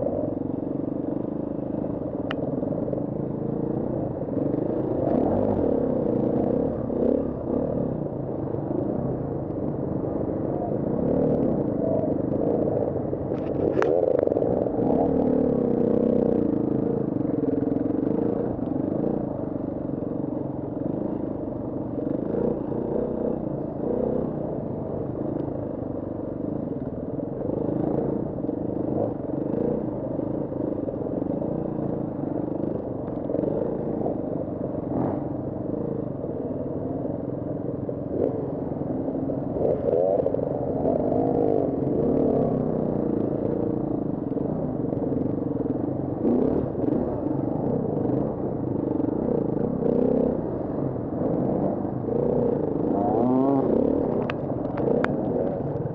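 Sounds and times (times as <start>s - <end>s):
motorcycle engine revving under load: 2.7s - 36.2s, 38.0s - 55.9s.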